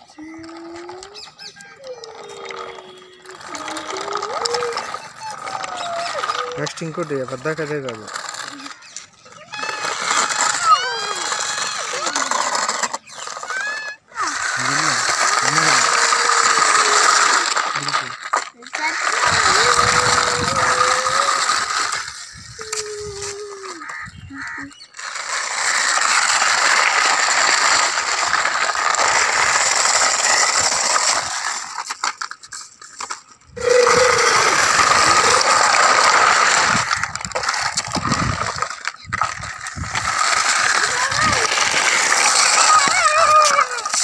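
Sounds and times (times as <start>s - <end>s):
toy tractor wheels scraping concrete: 0.0s - 44.0s.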